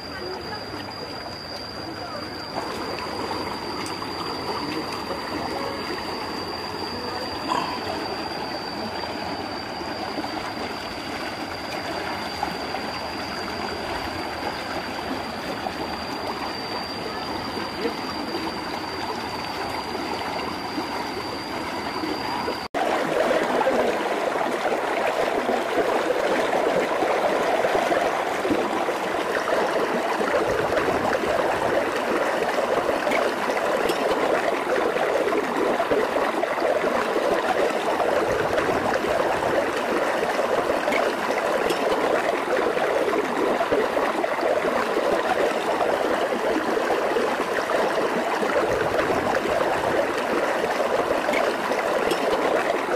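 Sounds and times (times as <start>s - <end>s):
stream running over stones: 0.0s - 52.9s
thin high-pitched tone: 0.0s - 52.9s.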